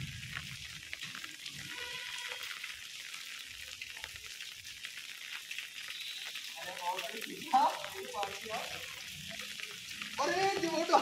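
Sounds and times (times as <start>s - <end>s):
rain on wet pavement: 0.0s - 11.0s.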